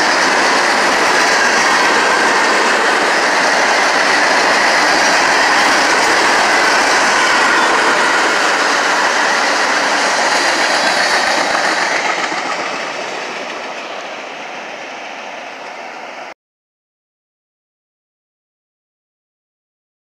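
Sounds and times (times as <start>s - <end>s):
passenger train passing: 0.0s - 16.4s.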